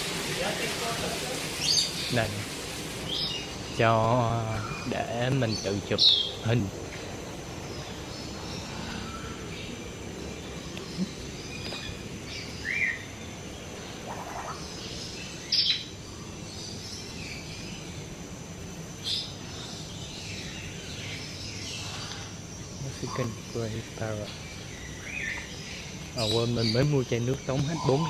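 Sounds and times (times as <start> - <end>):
birds chirping and calling: 0.0 - 28.0
steady background hiss: 0.0 - 28.0.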